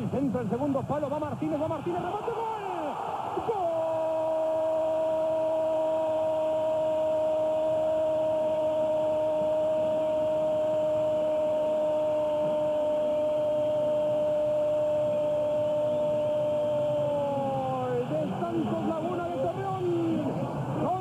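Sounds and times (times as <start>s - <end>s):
stadium crowd noise: 0.0s - 21.0s.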